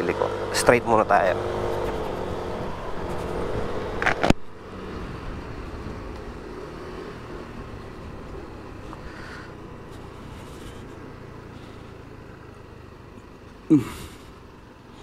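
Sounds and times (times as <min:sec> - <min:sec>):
motor scooter engine running: 0:00.0 - 0:15.0
wind and road noise: 0:00.0 - 0:15.0.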